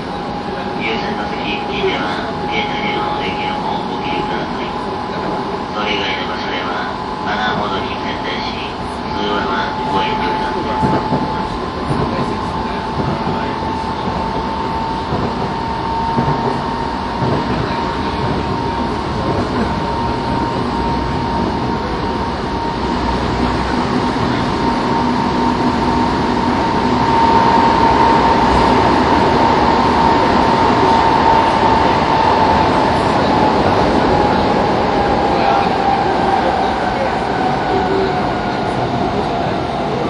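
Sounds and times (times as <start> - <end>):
high whine of train: 0.0 - 40.0
train wheels rumbling on rail: 0.0 - 40.0.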